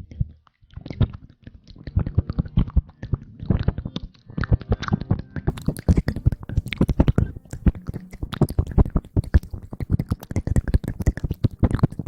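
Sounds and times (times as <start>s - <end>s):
rustling crackles and taps: 0.0s - 12.0s.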